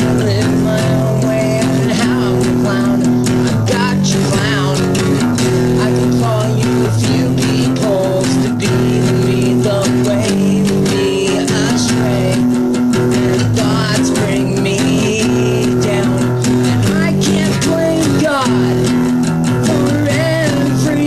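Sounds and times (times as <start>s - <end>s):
plucked and strummed guitar: 0.0s - 21.0s.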